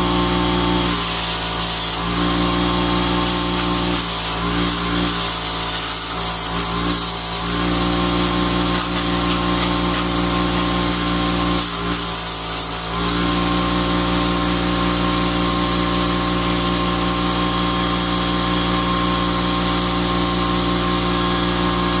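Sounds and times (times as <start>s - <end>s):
electric welding buzzing hum: 0.0s - 22.0s.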